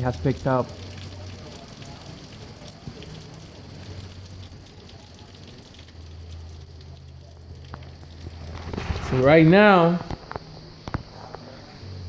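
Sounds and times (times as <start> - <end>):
rain falling in wind: 0.0 - 12.0.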